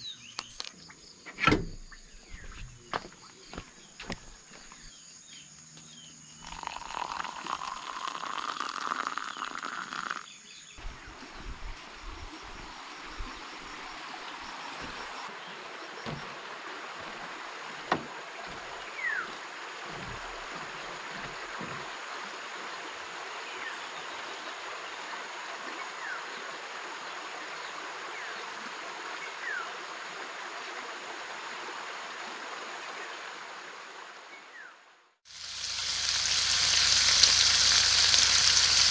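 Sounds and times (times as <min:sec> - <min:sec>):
stream flowing: 0:06.3 - 0:34.6, 0:35.3 - 0:38.9.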